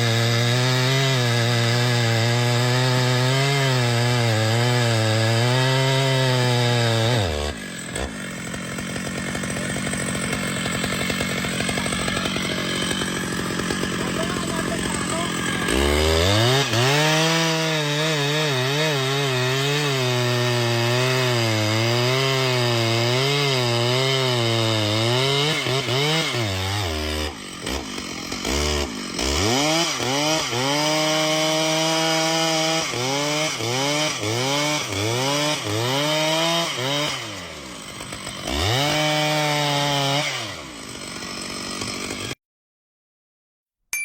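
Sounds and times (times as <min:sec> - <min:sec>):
chainsaw cutting wood: 0:00.0 - 0:42.4.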